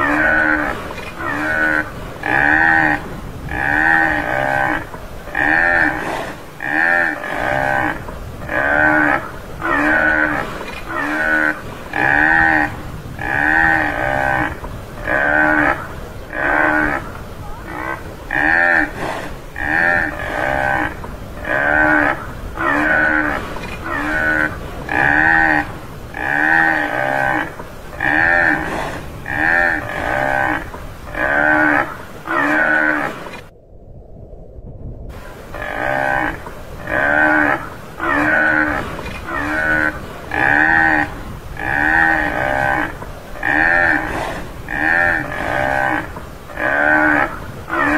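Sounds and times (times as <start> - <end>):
buffalo moo-like calls: 0.0 - 33.4, 35.3 - 47.9.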